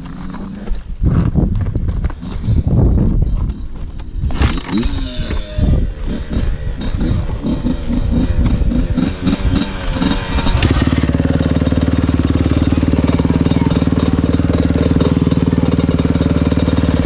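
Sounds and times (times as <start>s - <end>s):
dirt bike engine idling: 1.8s - 17.0s.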